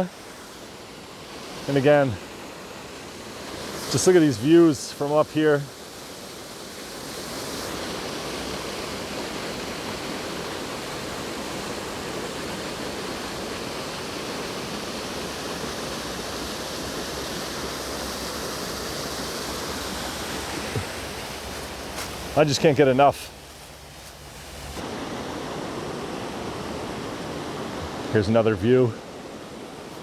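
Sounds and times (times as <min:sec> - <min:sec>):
waterfall rushing: 0:01.4 - 0:30.0.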